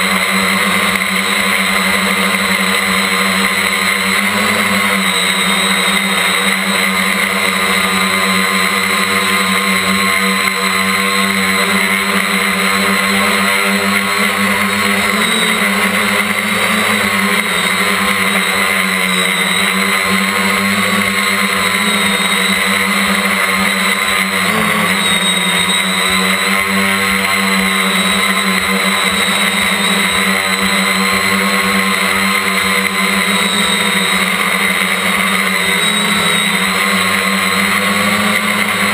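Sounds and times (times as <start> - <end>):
drone motors buzzing: 0.0 - 38.9.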